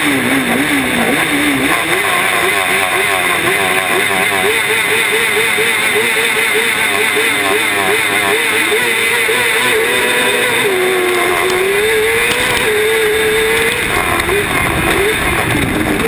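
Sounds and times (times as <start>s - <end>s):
race car engine revving: 0.0s - 16.0s
road and chassis noise: 0.0s - 16.0s.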